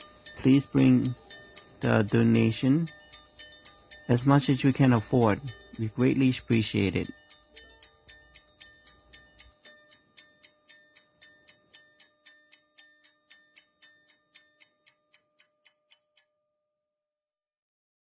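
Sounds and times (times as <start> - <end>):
clock-like ticking: 0.0 - 16.4.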